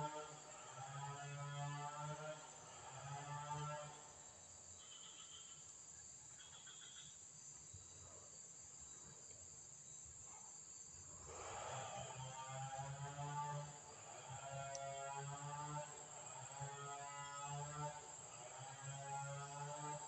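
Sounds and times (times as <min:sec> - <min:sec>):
high insect buzz: 0:00.0 - 0:20.0.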